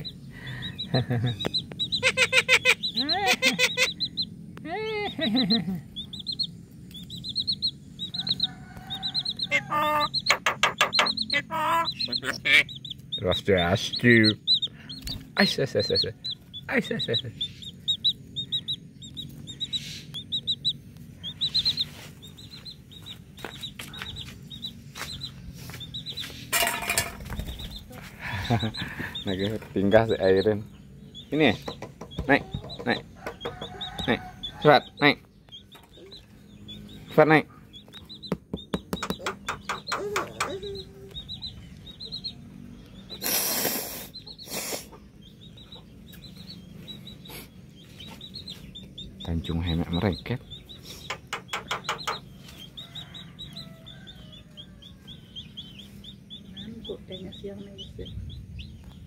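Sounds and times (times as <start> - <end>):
high bird chirps: 0.0 - 59.0.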